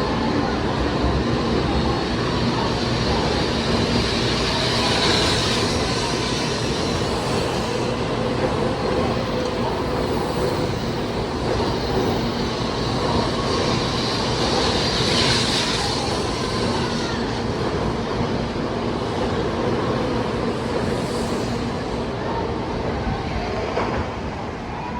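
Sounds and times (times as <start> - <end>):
train rail rumble and hiss: 0.0 - 24.9.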